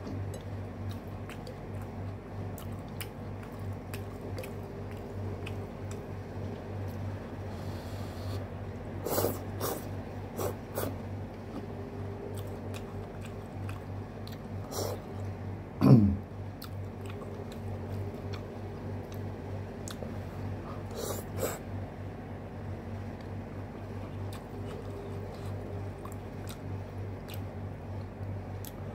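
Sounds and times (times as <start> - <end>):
man chewing noodles: 0.0 - 15.4, 16.5 - 21.8, 23.0 - 28.9
steady low hum: 0.0 - 28.9.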